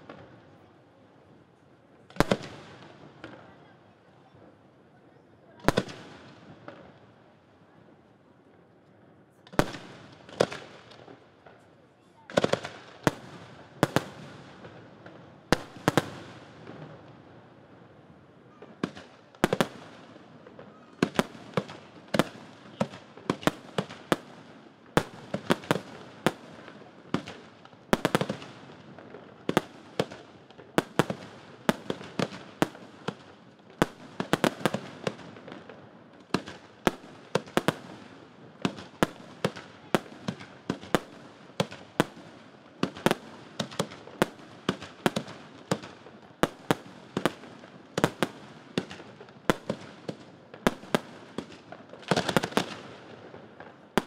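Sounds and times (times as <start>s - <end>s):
fireworks bangs: 2.1s - 4.5s, 9.4s - 11.6s, 12.2s - 17.2s, 18.4s - 54.0s.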